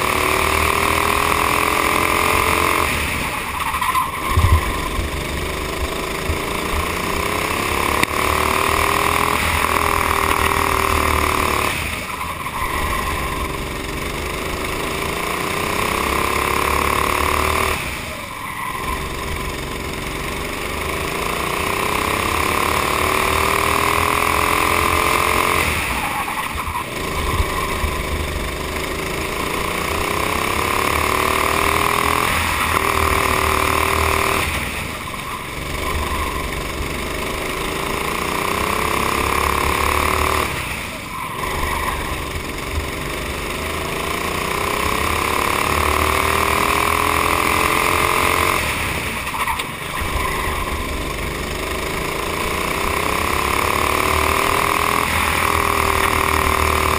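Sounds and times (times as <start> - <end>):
kart engine revving: 0.0 - 56.9.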